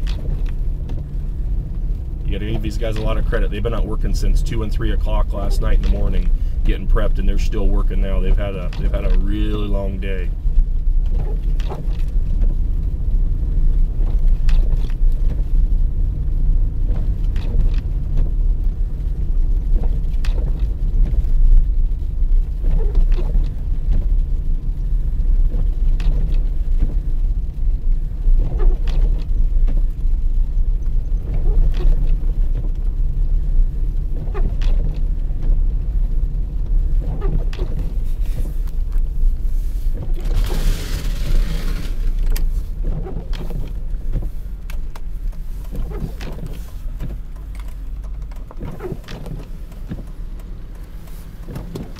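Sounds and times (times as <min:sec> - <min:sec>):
car rumbling on snowy road: 0:00.0 - 0:51.9.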